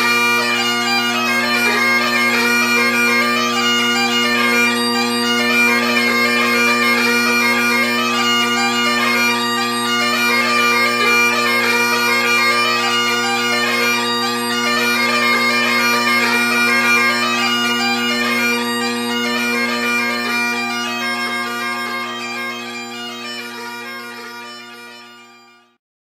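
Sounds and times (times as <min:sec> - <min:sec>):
bagpipe chanter tune: 0:00.0 - 0:25.8
bagpipe drones: 0:00.0 - 0:25.8.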